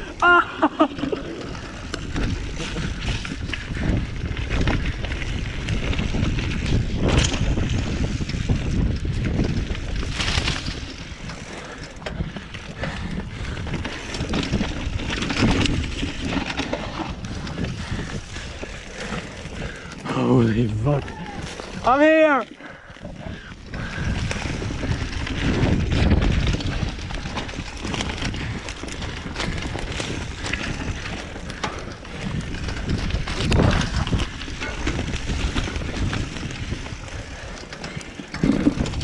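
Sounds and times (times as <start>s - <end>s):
bike knocking and rattling: 0.0s - 39.0s
wind rumble on microphone: 0.0s - 39.0s.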